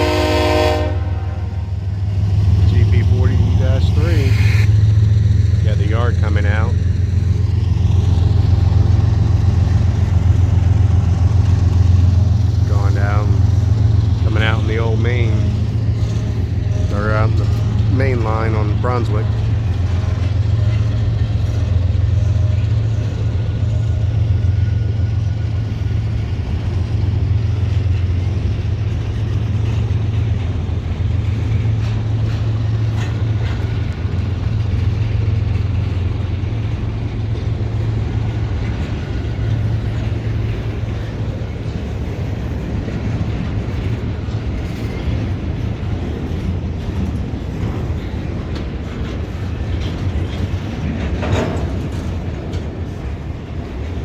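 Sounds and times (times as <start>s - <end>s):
locomotive engine rumble: 0.0s - 54.0s
rail cars rolling: 0.0s - 54.0s.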